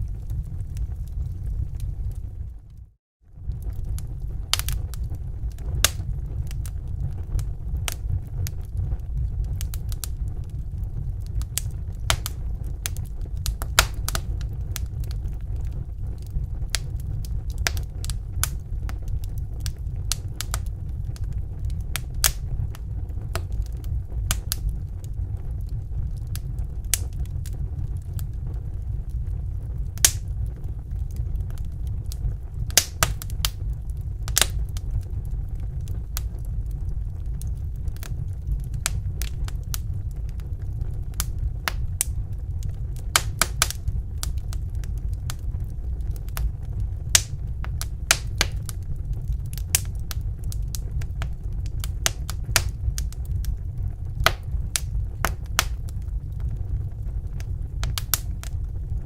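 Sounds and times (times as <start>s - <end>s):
low rumble: 0.0s - 59.0s
wood fire crackling and popping: 0.0s - 59.0s.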